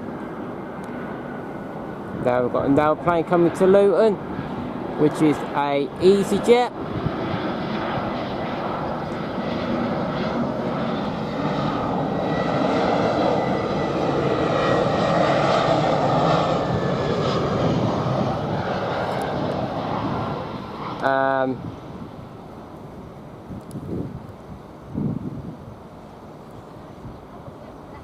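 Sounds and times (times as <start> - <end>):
airliner engines rumbling: 0.0 - 28.0.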